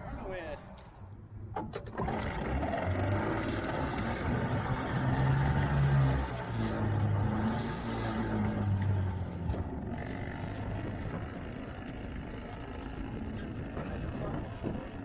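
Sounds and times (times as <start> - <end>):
outboard motor running: 1.8 - 15.0.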